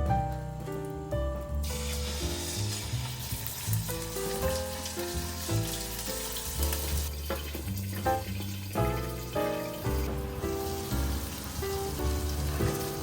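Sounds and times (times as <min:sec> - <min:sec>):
background music: 0:00.0 - 0:13.0
fish sizzling in oil: 0:01.6 - 0:13.0.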